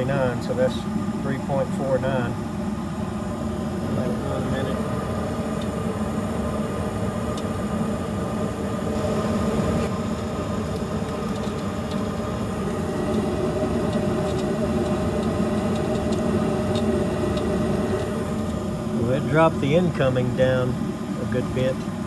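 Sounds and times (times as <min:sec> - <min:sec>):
gas furnace humming: 0:00.0 - 0:22.0.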